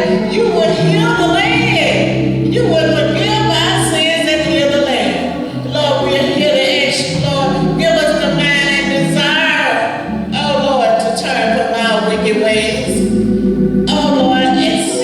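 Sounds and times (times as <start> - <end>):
gospel singing: 0.0 - 15.0
low accompaniment notes: 0.0 - 15.0.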